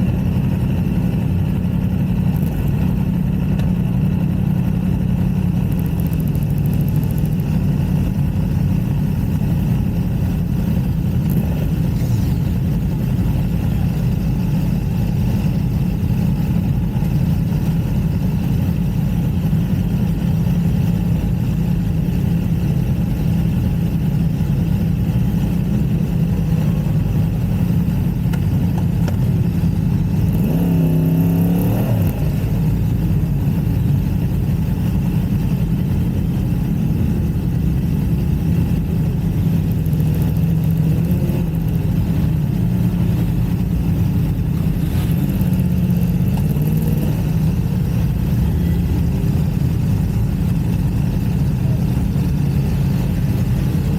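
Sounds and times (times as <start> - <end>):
motorcycle engine drone: 0.0 - 53.9.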